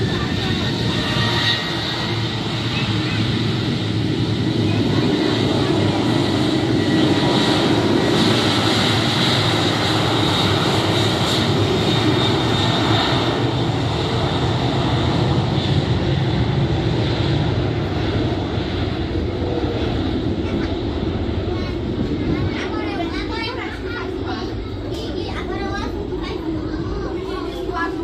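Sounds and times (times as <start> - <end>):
jet engines with high whine: 0.0 - 28.0.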